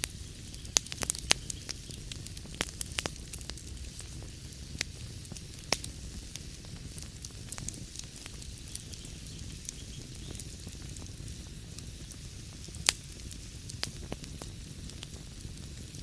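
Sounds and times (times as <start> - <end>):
loud pop from fire: 0.0 - 16.0
wood fire crackling: 0.0 - 16.0.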